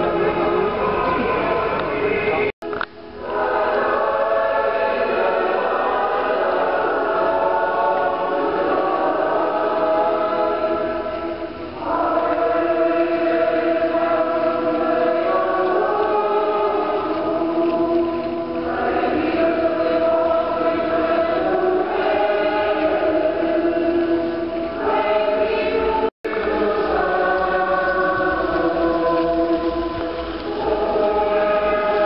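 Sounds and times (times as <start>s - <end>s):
crowd singing a hymn: 0.0s - 2.5s, 3.2s - 32.0s.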